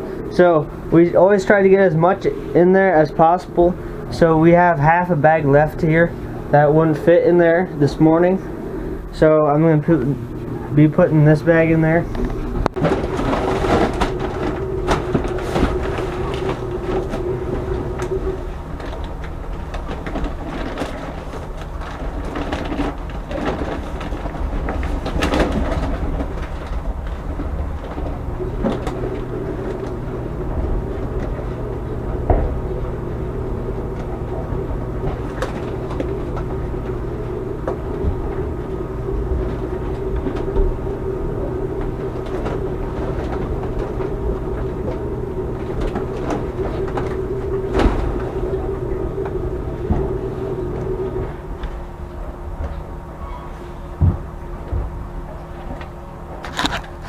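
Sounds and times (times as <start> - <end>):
low rumble: 0.0 - 56.4
machinery humming: 0.0 - 57.0.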